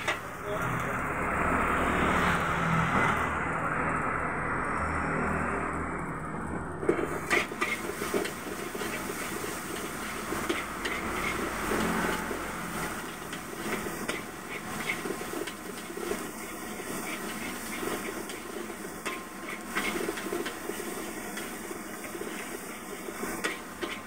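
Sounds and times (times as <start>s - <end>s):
hissing sizzle: 0.0s - 5.6s, 6.6s - 24.0s.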